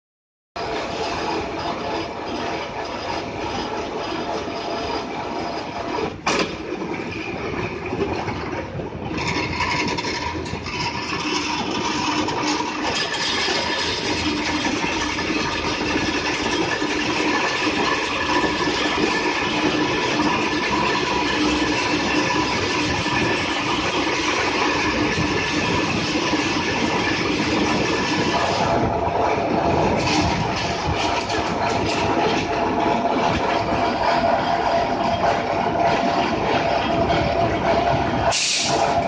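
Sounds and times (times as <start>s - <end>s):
roller machine humming and grinding: 0.6s - 39.0s.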